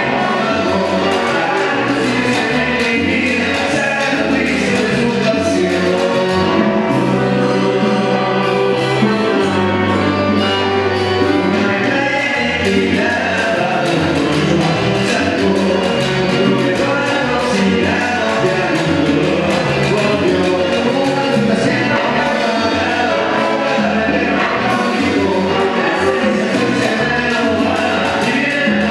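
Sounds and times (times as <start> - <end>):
band playing: 0.0 - 28.9
bass line: 0.0 - 28.9
group singing: 0.0 - 28.9
hand and kit percussion: 0.0 - 28.9.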